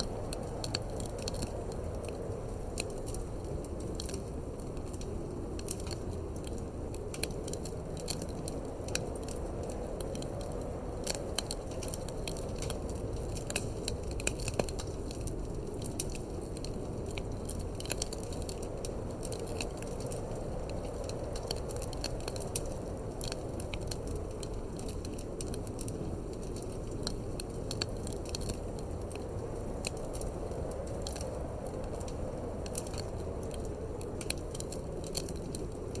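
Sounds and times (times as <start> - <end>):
low wind rumble: 0.0 - 36.0
wood fire crackling: 0.0 - 36.0.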